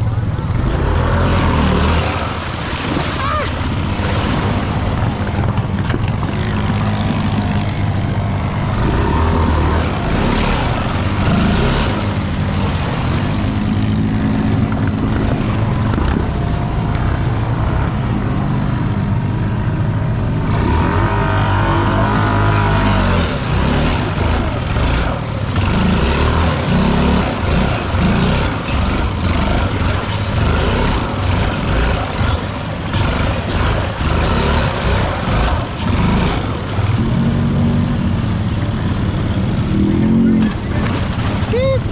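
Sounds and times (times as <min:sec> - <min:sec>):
off-road vehicle engine revving: 0:00.0 - 0:41.9.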